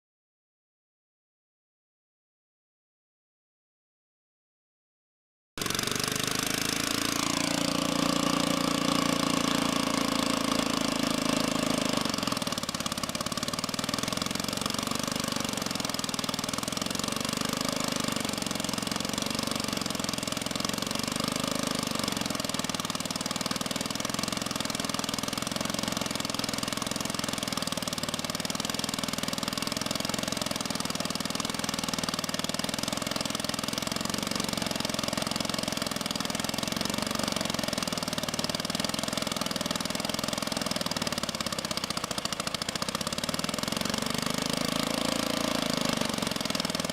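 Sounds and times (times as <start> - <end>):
sawmill engine running: 5.6 - 46.9.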